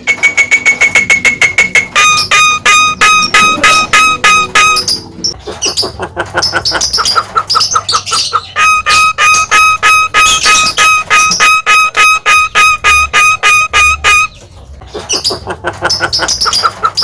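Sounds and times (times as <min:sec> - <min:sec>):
bird chirping and twittering: 0:00.0 - 0:17.0
harsh repeated bird calls: 0:00.0 - 0:17.0.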